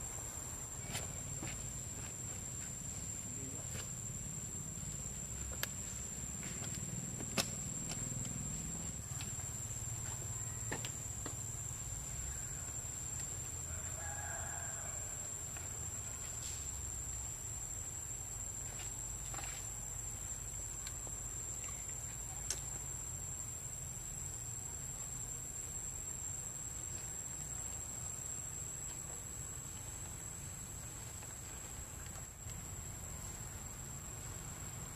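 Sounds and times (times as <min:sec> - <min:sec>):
high-pitched insect whine: 0:00.0 - 0:34.9.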